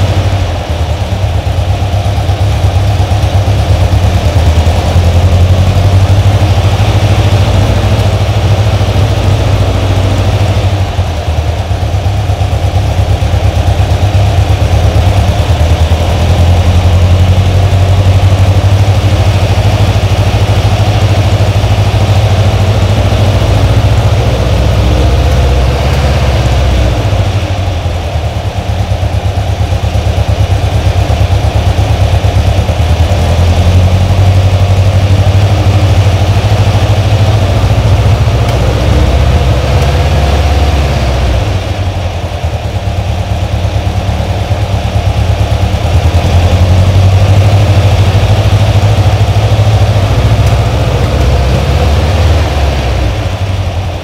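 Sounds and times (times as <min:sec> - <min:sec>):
car engine idling: 0:00.0 - 0:54.0
deep exhaust rumble: 0:00.0 - 0:54.0.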